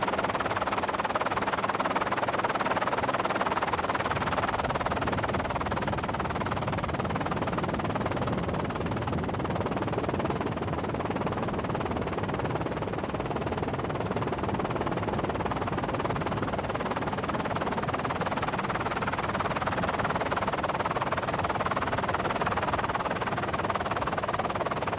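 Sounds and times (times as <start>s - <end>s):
helicopter engine and rotors: 0.0s - 24.9s
wind: 0.0s - 24.9s.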